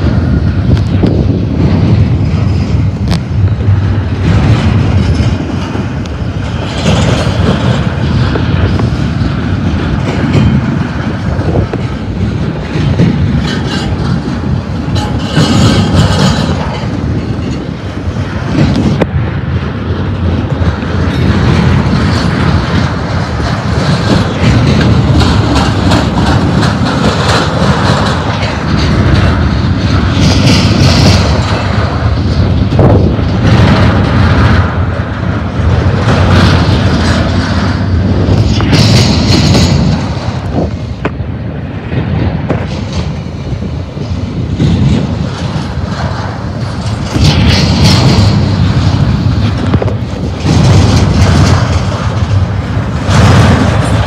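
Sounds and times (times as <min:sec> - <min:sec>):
fast clickety-clack over rail joints: 0:00.0 - 0:54.0
freight wheels rumbling: 0:00.0 - 0:54.0.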